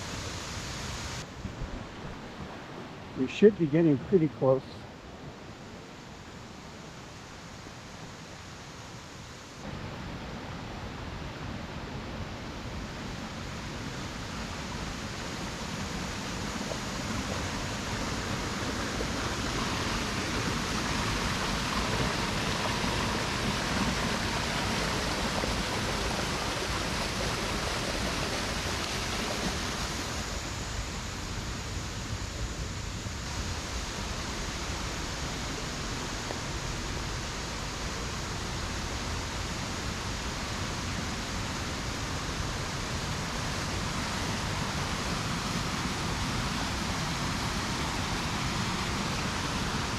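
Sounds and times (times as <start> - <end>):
stream water flowing: 0.0 - 49.9.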